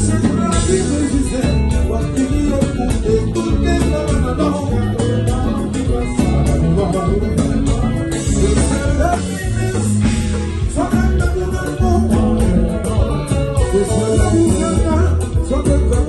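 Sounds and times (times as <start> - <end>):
live band playing: 0.0 - 16.0
man singing: 0.0 - 16.0.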